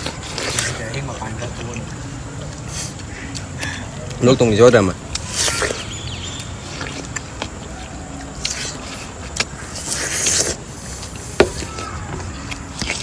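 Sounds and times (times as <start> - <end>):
chewing watermelon: 0.0 - 13.0.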